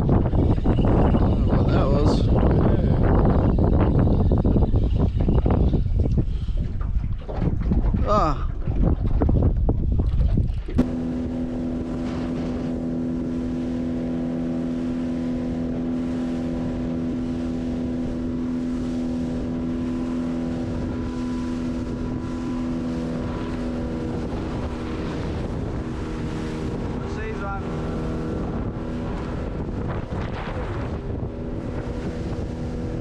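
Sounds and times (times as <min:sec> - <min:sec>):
motorboat engine running: 0:00.0 - 0:33.0
wind on microphone: 0:00.0 - 0:33.0.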